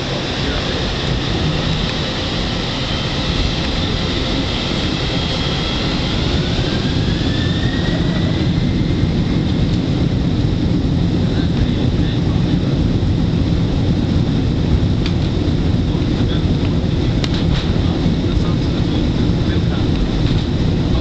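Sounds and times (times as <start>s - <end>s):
jet engines spooling up: 0.0s - 21.0s.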